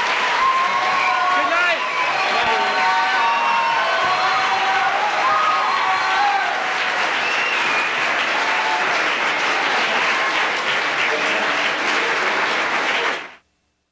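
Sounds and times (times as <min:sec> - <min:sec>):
audience applauding: 0:00.0 - 0:13.4
voices among clapping: 0:00.0 - 0:13.4.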